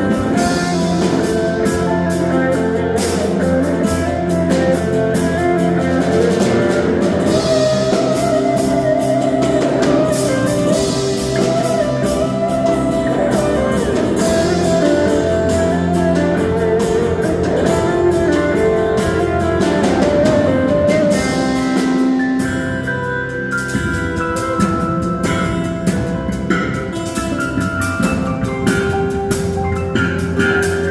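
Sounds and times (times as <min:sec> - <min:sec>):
bass: 0:00.0 - 0:30.9
drum kit steady beat: 0:00.0 - 0:30.9
guitar melodic lines: 0:00.0 - 0:30.9.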